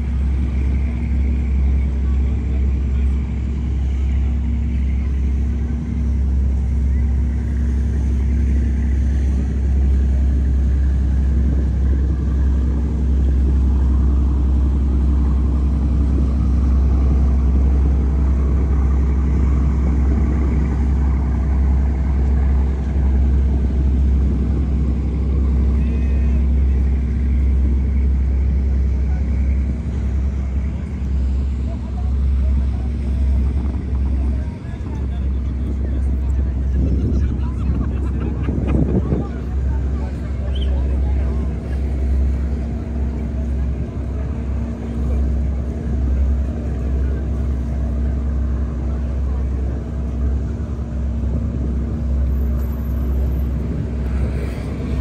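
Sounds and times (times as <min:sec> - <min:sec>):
faint voices: 0:00.0 - 0:55.0
road traffic rumble: 0:00.0 - 0:55.0.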